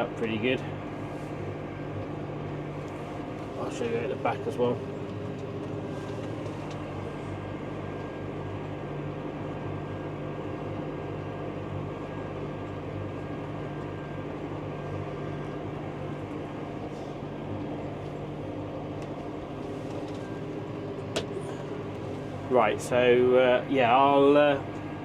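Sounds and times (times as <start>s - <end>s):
tractor diesel engine under load: 0.0s - 9.4s, 14.2s - 25.0s.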